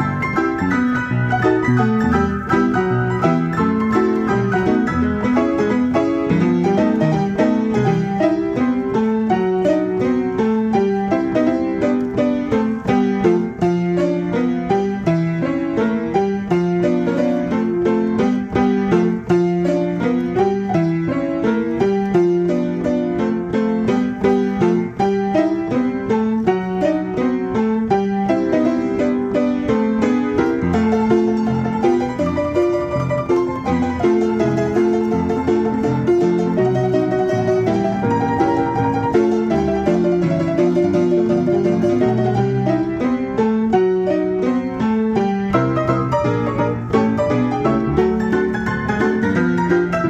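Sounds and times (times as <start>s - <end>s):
player piano playing: 0.0s - 50.0s.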